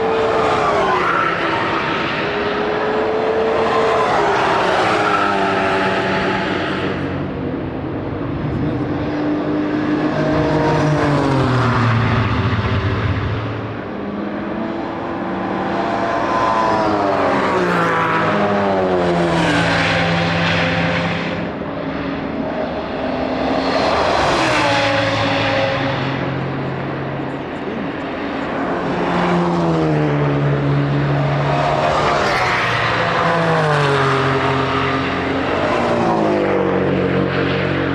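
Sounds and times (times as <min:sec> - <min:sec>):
race cars passing at speed: 0:00.0 - 0:37.9.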